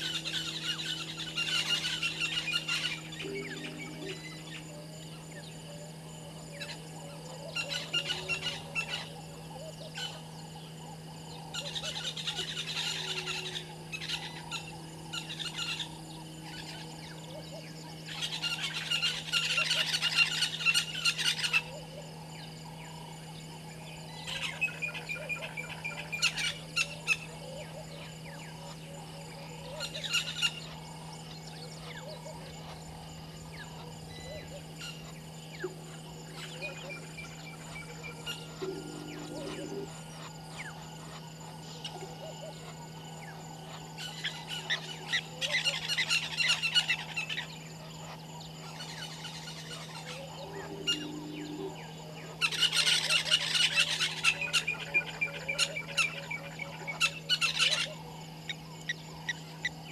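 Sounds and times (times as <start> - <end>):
birds chattering: 0.0 - 59.9
steady low hum: 0.0 - 59.9.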